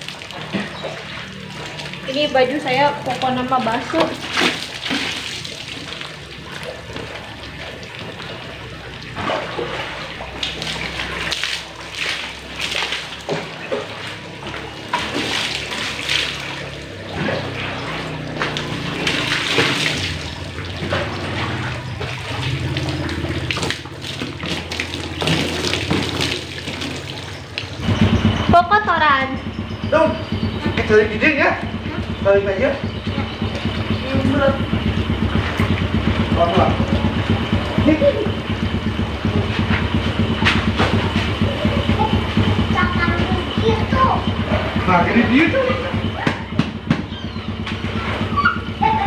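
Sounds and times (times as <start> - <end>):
water running onto ground: 0.0 - 49.0
water splashing on plastic: 0.0 - 49.0.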